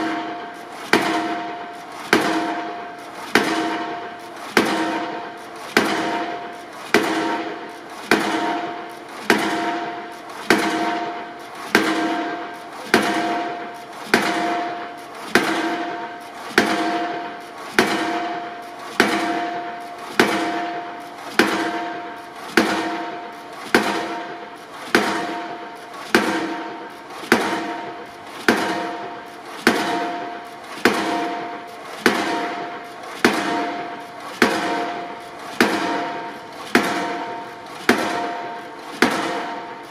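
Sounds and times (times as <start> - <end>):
pile hammer blows: 0.0 - 39.9.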